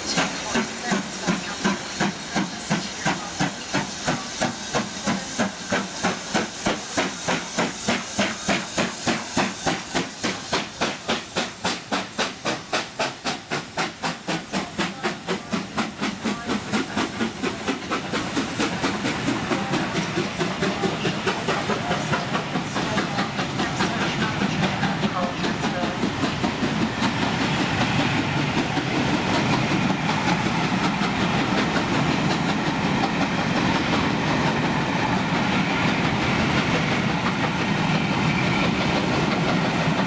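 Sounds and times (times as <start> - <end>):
hiss of steam: 0.0 - 40.0
steam locomotive chuffing: 0.0 - 40.0.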